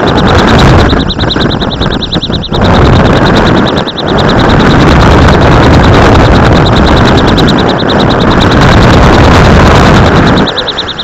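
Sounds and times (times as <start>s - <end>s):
fast high-pitched pulsing beep: 0.0s - 11.0s
wind buffeting microphone: 0.0s - 11.0s.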